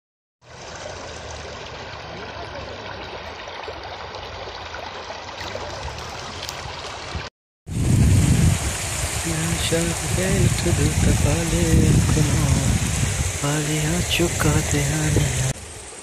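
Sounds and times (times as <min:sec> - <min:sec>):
stream running over stones: 0:00.4 - 0:16.0.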